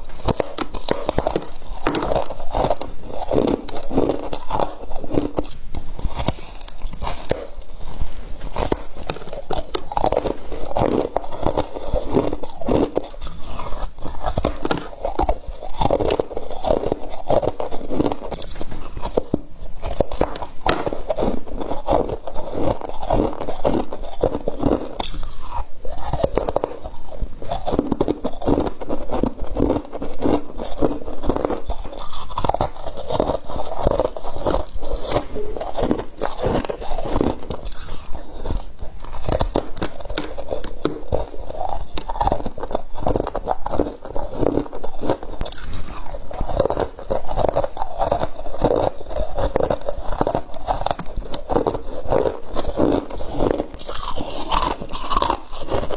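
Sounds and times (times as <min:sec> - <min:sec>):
frost crunching being chewed: 0:00.0 - 0:55.9.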